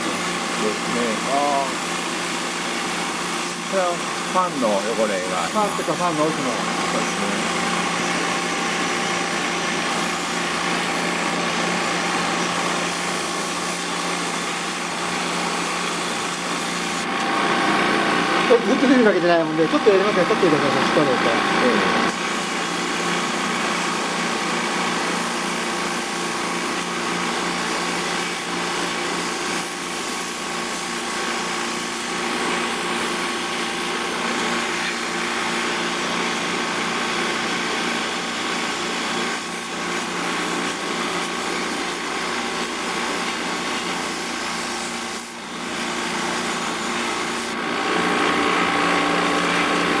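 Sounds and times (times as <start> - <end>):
sprayer motor humming: 0.0 - 50.0
spray hissing: 0.1 - 17.0, 22.1 - 47.6.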